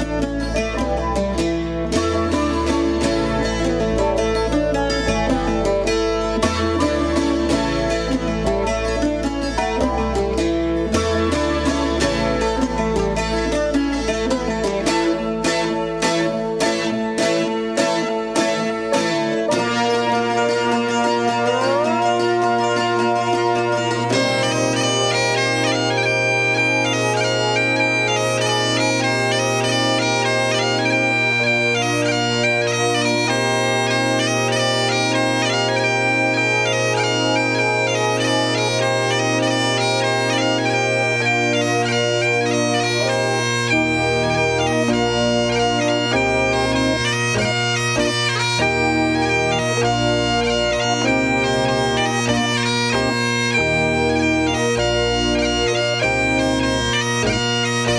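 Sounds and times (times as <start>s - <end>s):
bagpipe melody with drone: 0.0s - 57.9s
lower rhythmic part: 0.0s - 57.9s.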